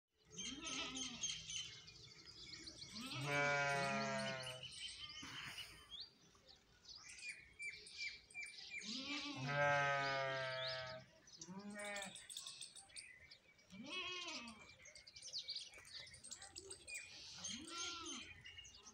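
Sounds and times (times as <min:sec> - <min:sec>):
small birds chirping: 0:00.2 - 0:18.9.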